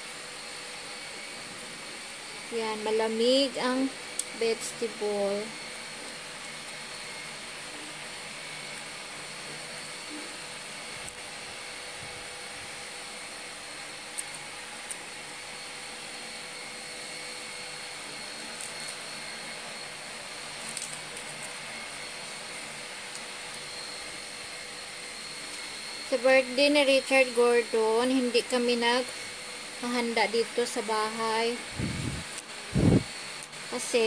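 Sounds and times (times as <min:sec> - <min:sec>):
appliance whirring hum: 0:00.0 - 0:34.0
faint high whine: 0:00.0 - 0:34.0.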